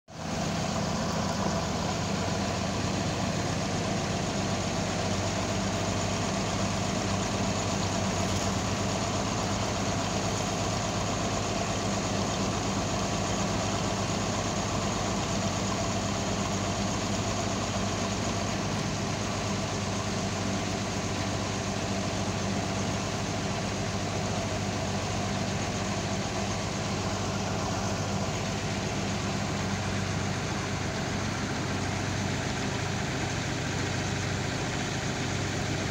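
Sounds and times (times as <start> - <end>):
crane engine humming: 0.2 - 35.9.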